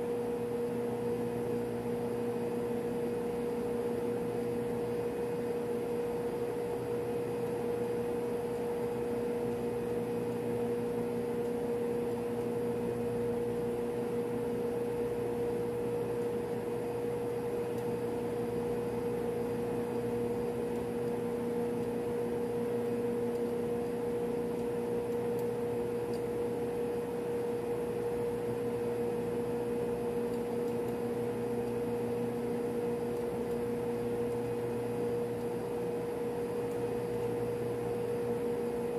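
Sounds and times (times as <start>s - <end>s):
ventilation drone: 0.0s - 38.9s.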